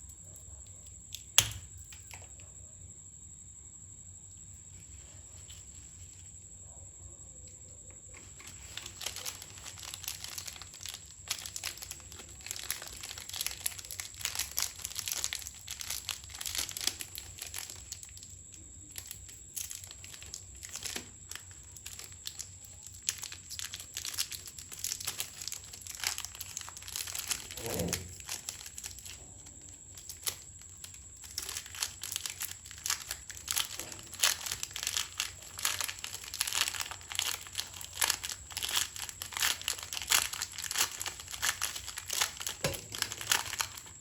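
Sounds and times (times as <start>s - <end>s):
plastic packet crinkling: 8.2s - 44.0s.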